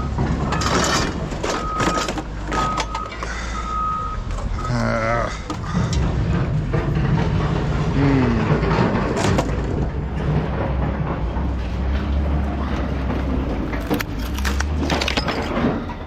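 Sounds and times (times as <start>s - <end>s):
scrap metal clanking: 0.0s - 3.2s, 5.3s - 16.0s
engine running low: 0.0s - 16.0s.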